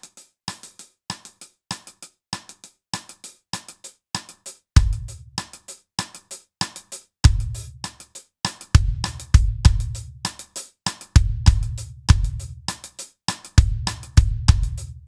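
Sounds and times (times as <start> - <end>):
hi-hat strokes: 0.0 - 15.0.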